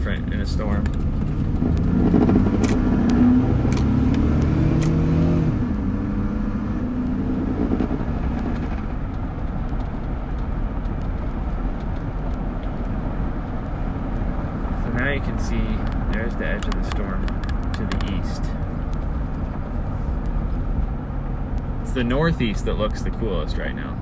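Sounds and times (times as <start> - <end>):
car engine hum: 0.0 - 24.0
road and tyre noise: 0.0 - 24.0.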